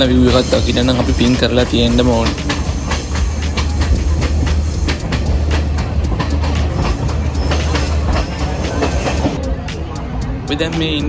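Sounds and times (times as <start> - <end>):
train carriage rumbling: 0.0 - 11.0
wheels clacking over rails: 0.0 - 11.0.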